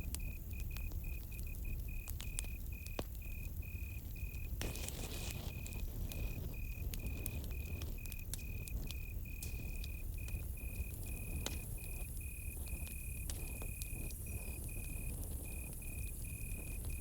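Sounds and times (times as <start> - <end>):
campfire crackling and popping: 0.0 - 17.0
crickets chirping: 0.0 - 17.0.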